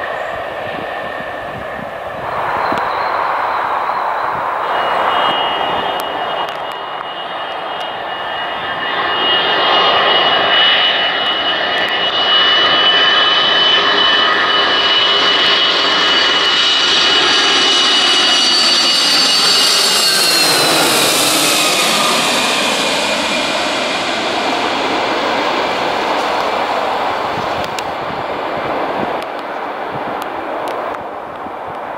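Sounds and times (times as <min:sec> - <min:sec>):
jet airliner passing: 0:00.0 - 0:31.9.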